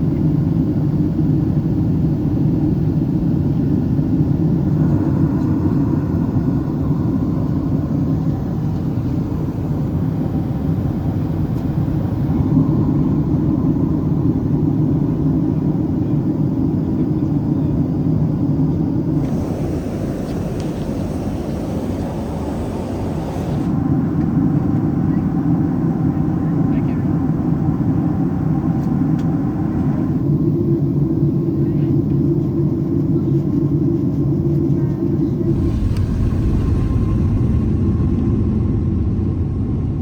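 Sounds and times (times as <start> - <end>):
jet airliner cabin rumble: 0.0 - 40.0.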